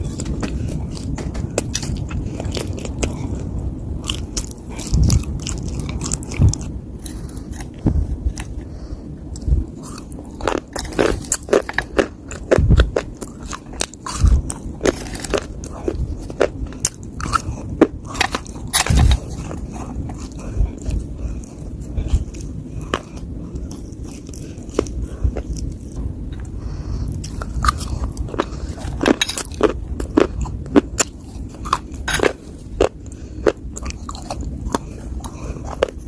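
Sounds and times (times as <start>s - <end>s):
clay being chewed with crunches: 0.0s - 8.7s, 9.3s - 36.0s.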